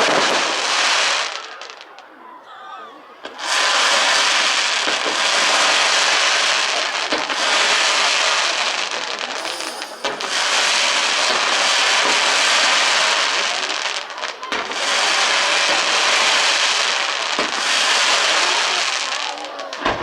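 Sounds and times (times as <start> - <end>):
firework bangs: 0.0 - 2.2, 3.2 - 20.0
fireworks crackling: 0.0 - 2.2, 3.2 - 20.0.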